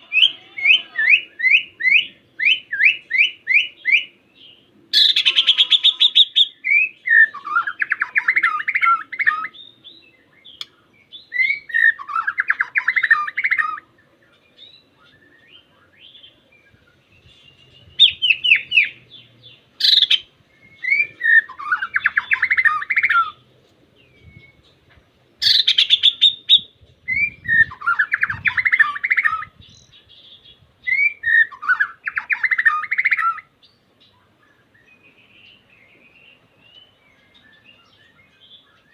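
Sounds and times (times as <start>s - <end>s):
songbird chattering song: 0.0s - 38.9s.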